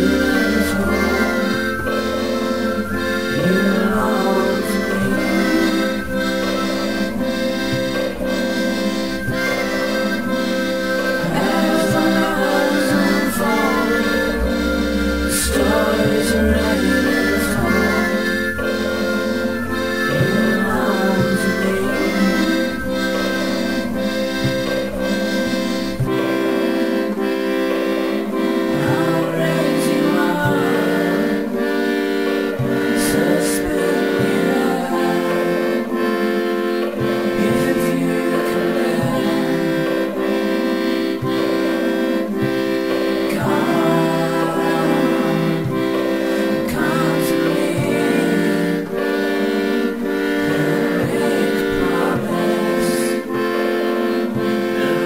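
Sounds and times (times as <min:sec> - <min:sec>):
steady music beat: 0:00.0 - 0:55.0
sustained music chords: 0:00.0 - 0:55.0.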